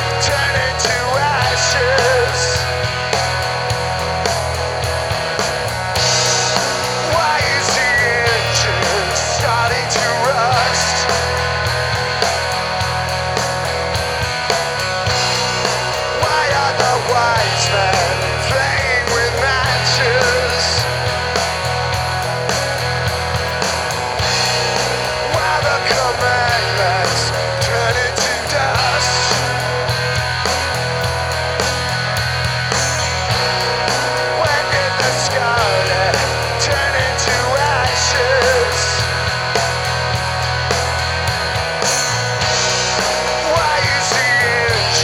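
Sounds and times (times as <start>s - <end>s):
bending lead guitar line: 0.0s - 45.0s
drums keeping a beat: 0.0s - 45.0s
rock band playing: 0.0s - 45.0s.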